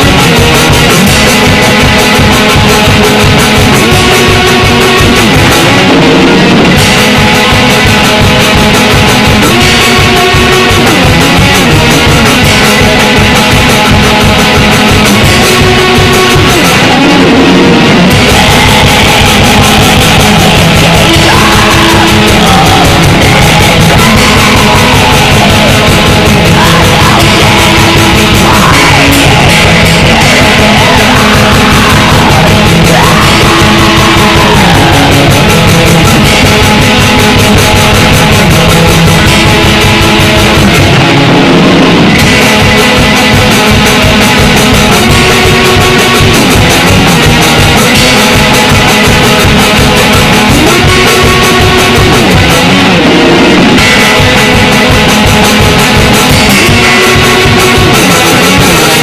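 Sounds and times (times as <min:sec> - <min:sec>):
black metal distorted guitars and drums: 0:00.0 - 0:59.0.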